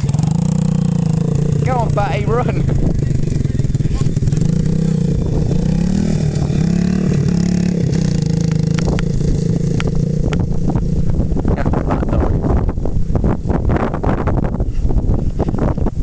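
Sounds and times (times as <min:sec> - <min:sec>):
motorcycle engine revving: 0:00.0 - 0:16.0
wind buffeting microphone: 0:00.0 - 0:16.0.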